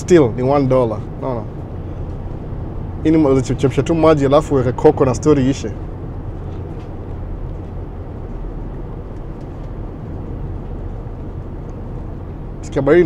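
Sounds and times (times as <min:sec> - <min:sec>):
van engine rumble from inside: 0:00.0 - 0:13.0.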